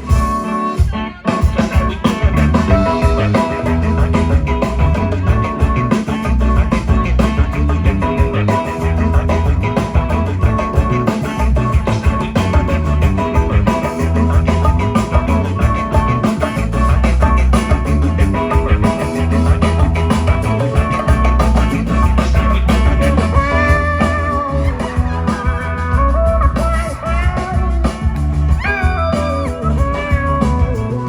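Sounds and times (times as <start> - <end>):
rock band playing live: 0.0 - 31.0
wavering electric guitar lead: 0.0 - 31.0.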